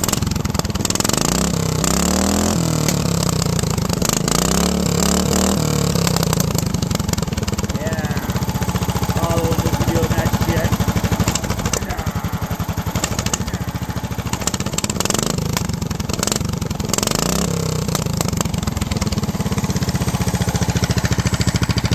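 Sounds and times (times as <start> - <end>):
single-cylinder engine running: 0.0 - 21.9.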